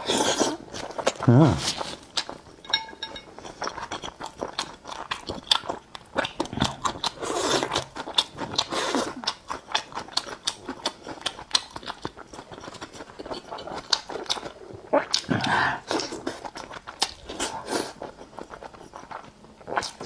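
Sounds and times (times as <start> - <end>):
chewing mouth noises: 0.1 - 20.0.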